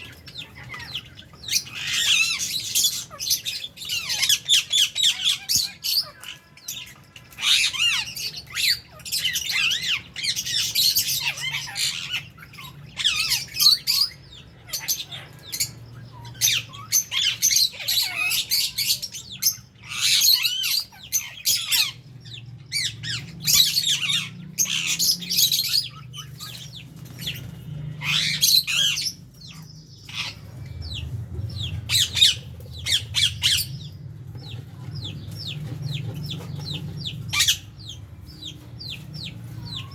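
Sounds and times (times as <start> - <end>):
birds squawking and chattering: 0.0 - 39.9.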